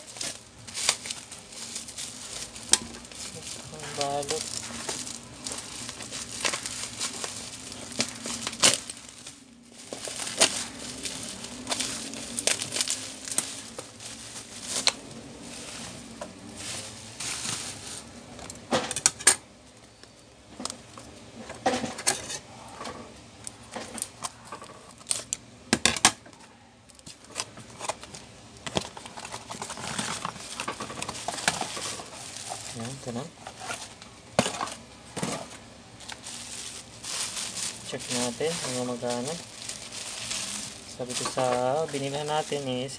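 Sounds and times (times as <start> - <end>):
plastic wrap crinkling: 0.0 - 18.7, 23.5 - 25.5, 26.8 - 42.9
sharp crackles and knocks: 0.0 - 42.7.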